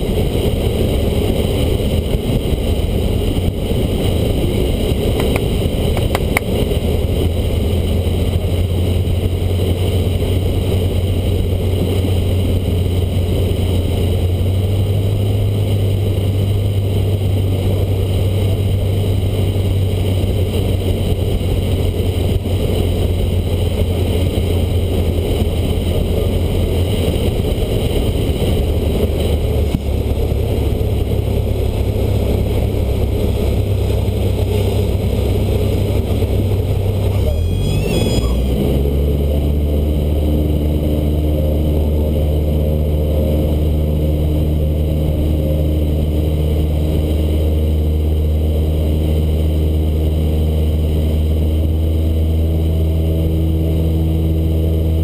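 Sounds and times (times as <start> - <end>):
plane engine and propeller droning: 0.0 - 55.0.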